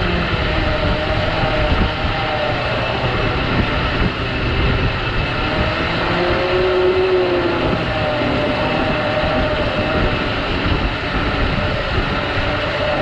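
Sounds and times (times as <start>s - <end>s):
electric winch whining: 0.0s - 13.0s
wind buffeting on microphone: 0.0s - 13.0s.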